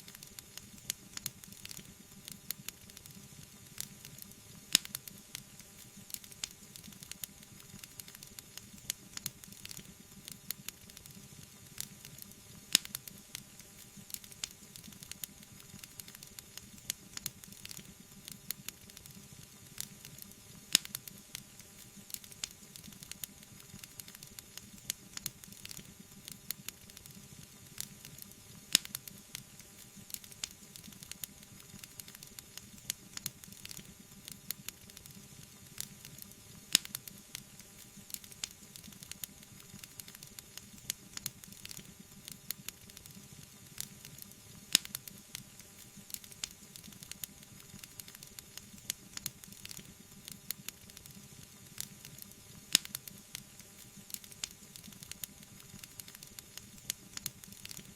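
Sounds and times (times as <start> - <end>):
fire hissing: 0.0 - 57.9
wood fire crackling and popping: 0.0 - 57.9.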